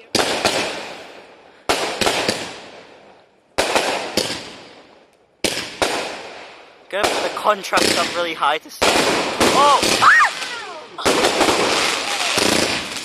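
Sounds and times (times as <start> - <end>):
aerial fireworks bursting: 0.0 - 13.0
fireworks crackling hiss: 0.0 - 13.0.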